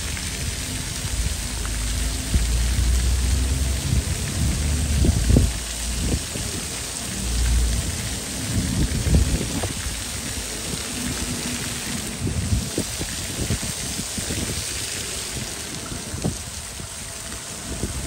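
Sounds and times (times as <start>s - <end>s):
fountain splashing on paving: 0.0s - 18.0s
low rumbles: 0.0s - 18.0s.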